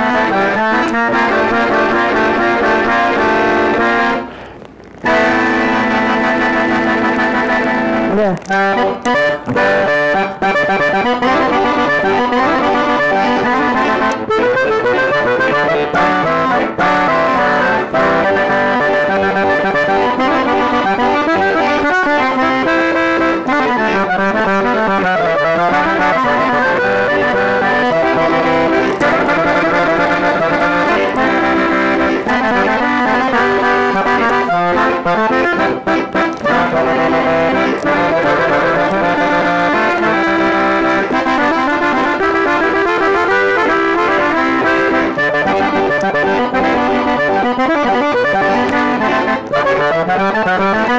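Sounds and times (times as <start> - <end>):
solo accordion: 0.0 - 50.9.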